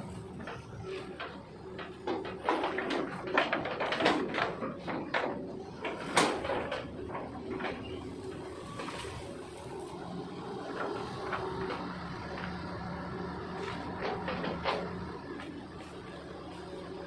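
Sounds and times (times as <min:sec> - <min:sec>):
excavator engine humming: 0:00.0 - 0:17.0
metallic clanks and knocks: 0:00.1 - 0:17.0.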